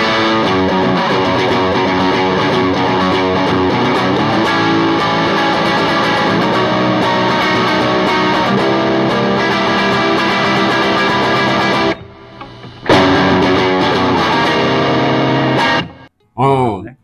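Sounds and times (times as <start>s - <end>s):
electric guitar playing chords: 0.0s - 16.1s.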